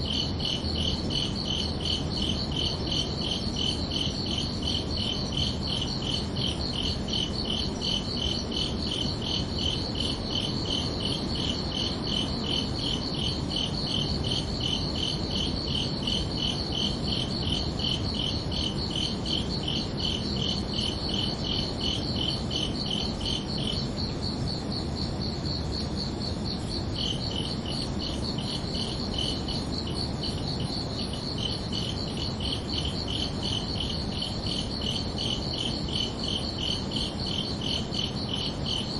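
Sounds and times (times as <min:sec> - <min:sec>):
crickets chirping: 0:00.0 - 0:38.9
low background hiss: 0:00.0 - 0:38.9.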